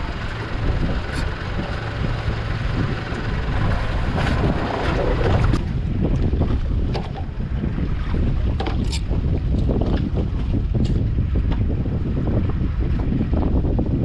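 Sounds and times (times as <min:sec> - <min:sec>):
sea rushing: 0:00.0 - 0:14.0
wind buffeting microphone: 0:00.0 - 0:14.0.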